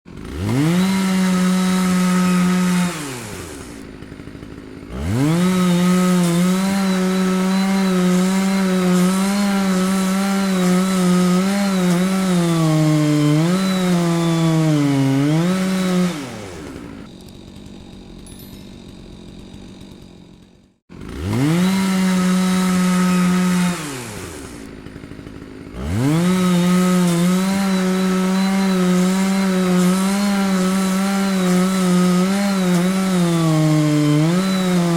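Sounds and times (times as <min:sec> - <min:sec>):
chainsaw revving and idling: 0:00.1 - 0:34.9.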